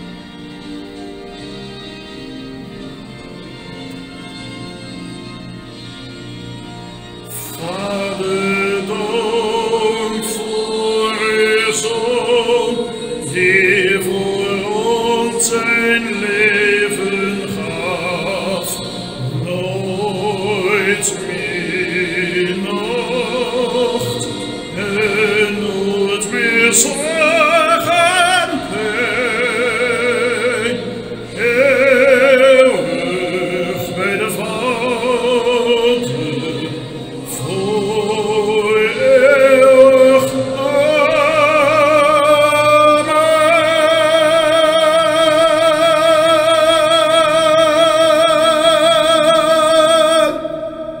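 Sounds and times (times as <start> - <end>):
accompanying music: 0.0 - 51.0
man singing with vibrato: 7.2 - 51.0.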